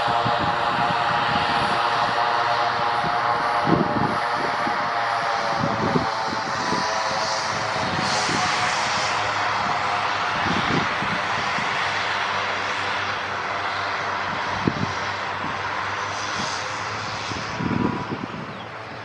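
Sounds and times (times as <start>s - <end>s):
aircraft engine rushing: 0.0s - 19.0s.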